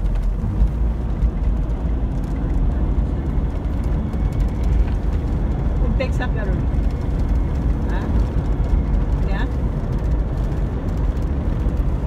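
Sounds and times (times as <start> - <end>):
car engine: 0.0 - 12.0
tyre road noise: 0.0 - 12.0.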